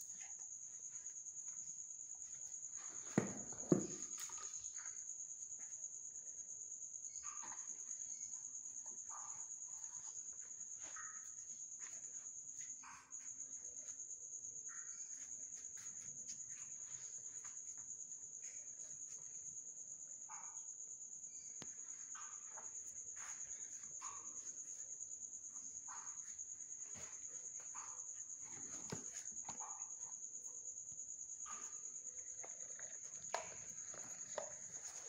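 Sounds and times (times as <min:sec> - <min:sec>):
cricket trilling: 0:00.0 - 0:35.0.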